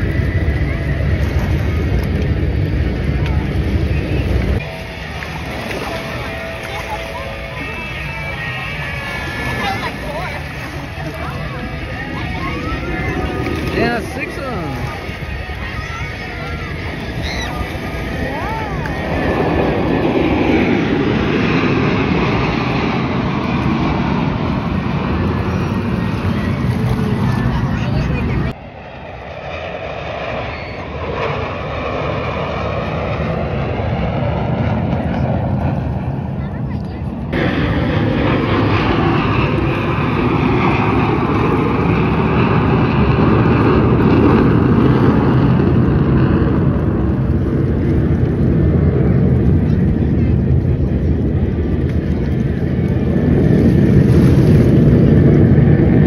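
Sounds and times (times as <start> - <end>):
jet aircraft flying past: 0.0 - 56.0.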